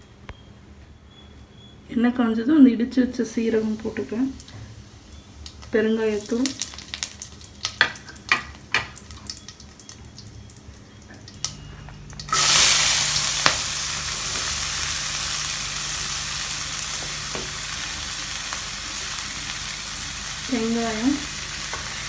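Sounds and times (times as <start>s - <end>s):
frying sizzle: 3.2s - 22.0s
spices popping in hot oil: 3.3s - 22.0s.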